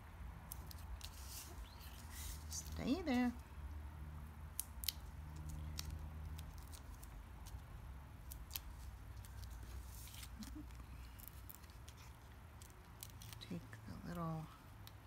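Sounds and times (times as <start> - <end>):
soft paper rustle: 0.5 - 3.5, 4.8 - 14.6.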